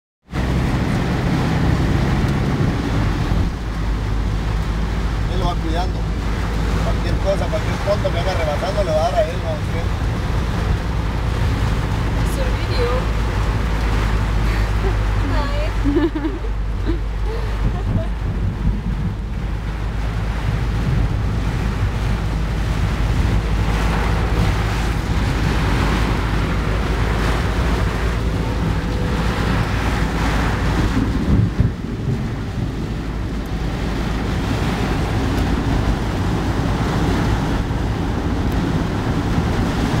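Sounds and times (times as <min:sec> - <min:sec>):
car engine and road rumble: 0:00.2 - 0:40.0
rain hiss and wet road noise: 0:00.3 - 0:40.0.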